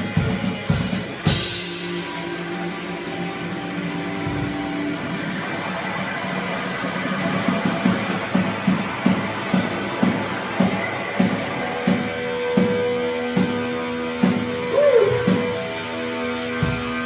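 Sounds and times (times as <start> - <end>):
steady drum beat: 0.0 - 15.7.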